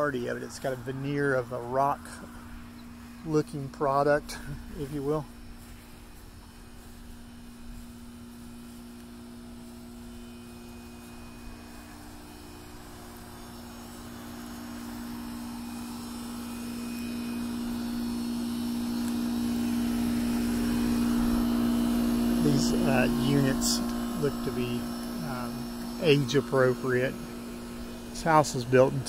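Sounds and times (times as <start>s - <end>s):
air conditioner unit humming: 0.0s - 29.0s.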